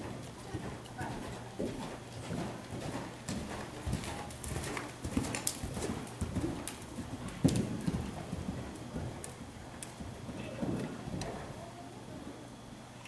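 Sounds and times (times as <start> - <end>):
horse hoofbeats on sand: 0.0 - 11.6.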